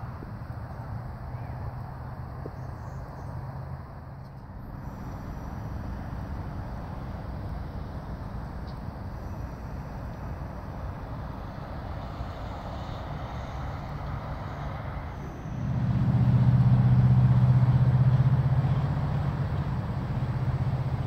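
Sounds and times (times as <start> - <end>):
large engine passing: 0.0 - 21.0
steady low rumble: 0.0 - 21.0.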